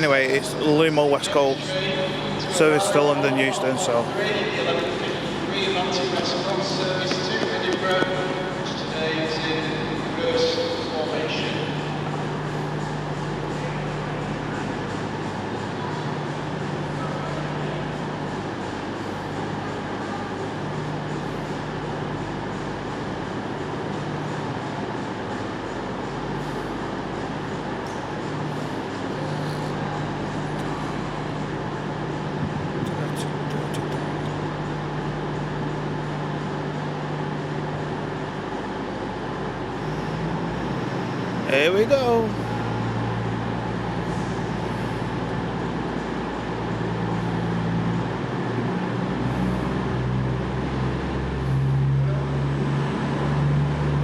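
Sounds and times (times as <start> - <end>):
train running: 0.0 - 54.0.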